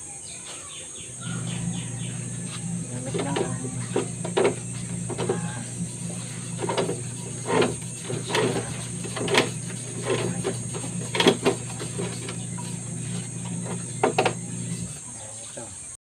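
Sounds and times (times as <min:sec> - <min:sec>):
electric motor humming: 0:01.1 - 0:15.2
scraping knocks on drum: 0:01.4 - 0:15.0.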